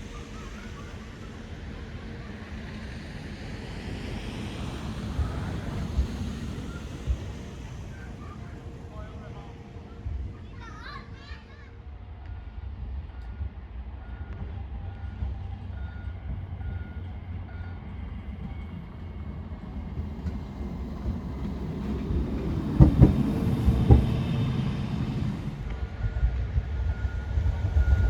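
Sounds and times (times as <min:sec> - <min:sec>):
tram passing: 0:00.0 - 0:28.0.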